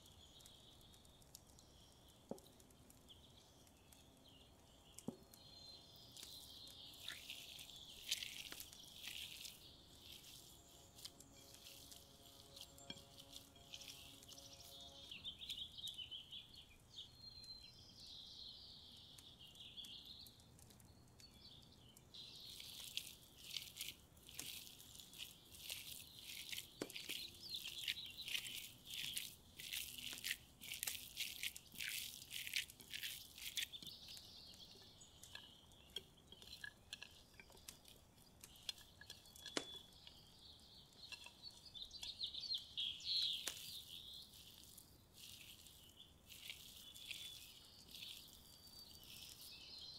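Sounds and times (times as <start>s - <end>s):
birds chirping: 0.0s - 49.9s
hands squelching ground meat: 4.8s - 17.0s, 22.1s - 49.9s.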